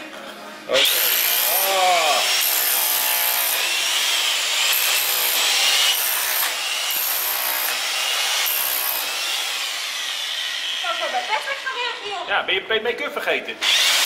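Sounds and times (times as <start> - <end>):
hand saw cutting wood: 0.8 - 11.8, 13.6 - 14.0.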